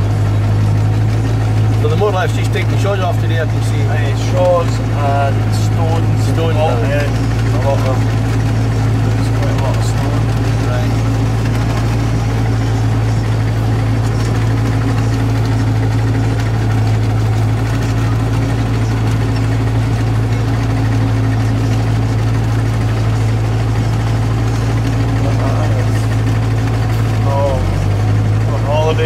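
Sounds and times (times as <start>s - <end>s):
tractor engine droning: 0.0s - 29.0s.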